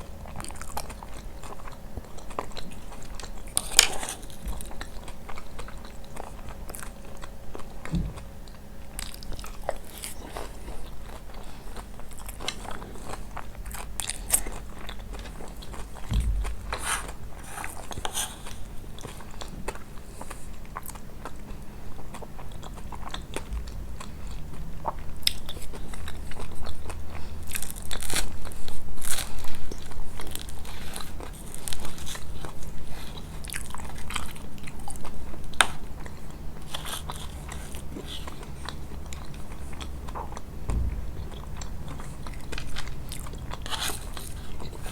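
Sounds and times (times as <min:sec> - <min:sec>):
crisp pastry crunching: 0:00.0 - 0:44.9
wet chewing: 0:00.0 - 0:44.9.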